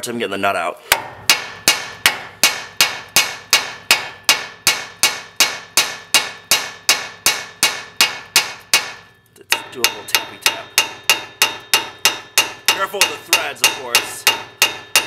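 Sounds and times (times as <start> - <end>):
hammer striking metal: 0.9 - 15.0.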